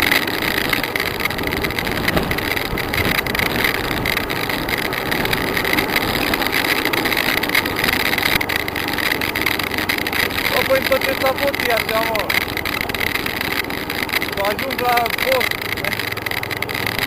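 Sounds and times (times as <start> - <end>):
motorcycle engines: 0.0 - 17.0
wind and road noise: 0.0 - 17.0.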